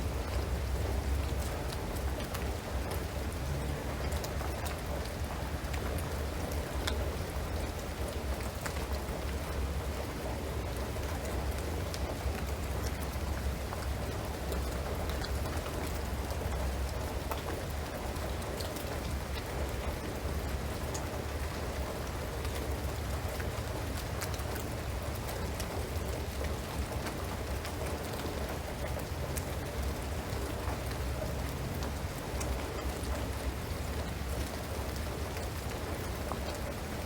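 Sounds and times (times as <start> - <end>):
rain on roof and trees: 0.0 - 37.0.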